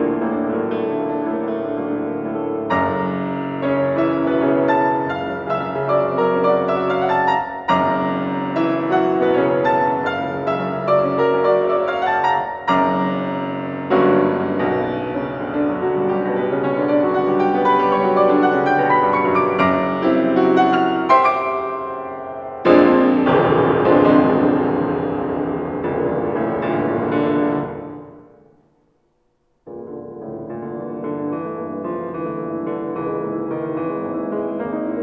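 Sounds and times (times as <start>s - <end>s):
loud low piano chord: 0.0s - 28.5s
solo piano playing: 0.0s - 28.5s, 29.7s - 35.0s.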